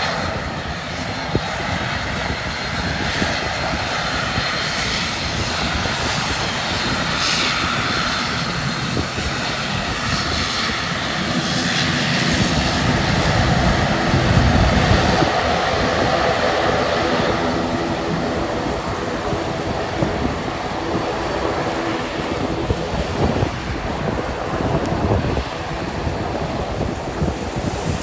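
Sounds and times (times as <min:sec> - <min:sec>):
turboprop plane taking off: 0:00.0 - 0:28.0.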